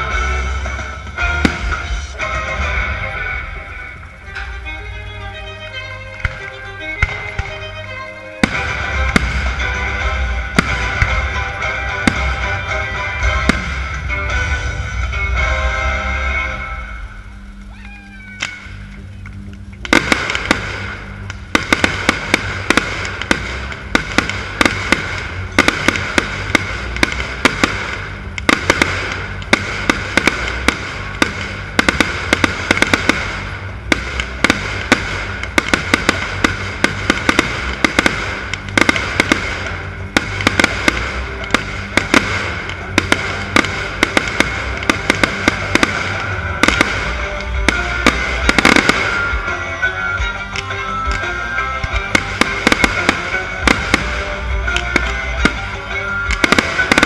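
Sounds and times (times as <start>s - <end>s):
fireworks bangs and crackles: 0.0s - 17.3s, 18.3s - 57.0s.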